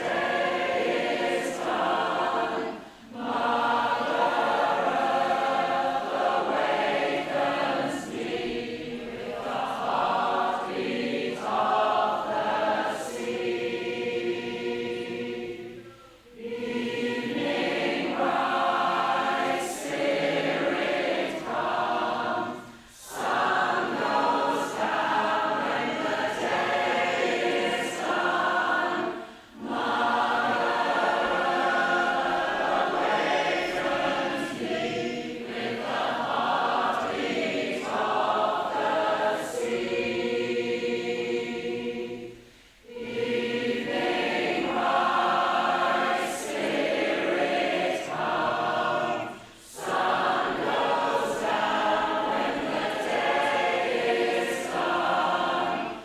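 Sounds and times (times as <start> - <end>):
women's choir singing: 0.0 - 56.0.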